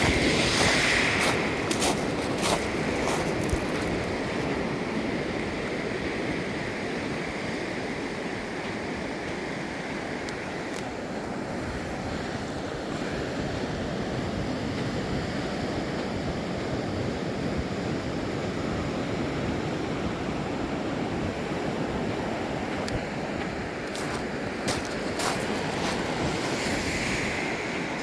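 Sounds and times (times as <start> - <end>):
ocean surf washing ashore: 0.0 - 28.0.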